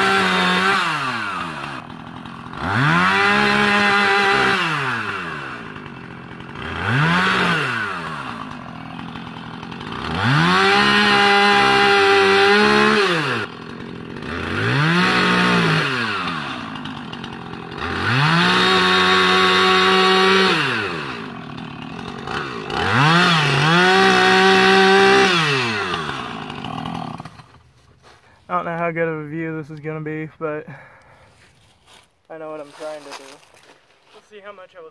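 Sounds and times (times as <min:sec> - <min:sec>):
chainsaw cutting log: 0:00.0 - 0:28.2, 0:30.8 - 0:34.6
chainsaw revving: 0:00.0 - 0:28.2.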